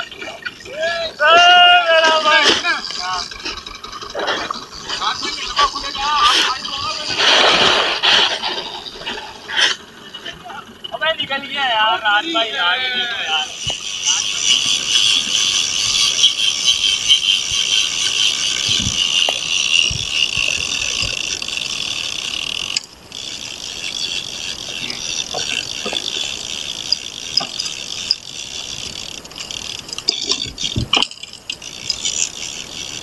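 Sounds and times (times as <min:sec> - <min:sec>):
fishing reel ratcheting: 0:00.0 - 0:09.9, 0:13.5 - 0:33.0.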